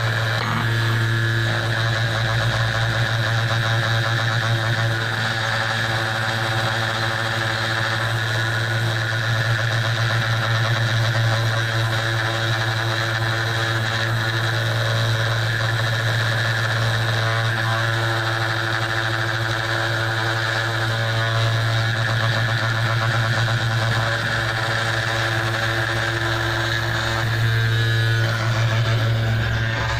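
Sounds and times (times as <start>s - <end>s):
end mill engraving metal: 0.0s - 29.9s
spindle motor humming: 0.0s - 29.9s.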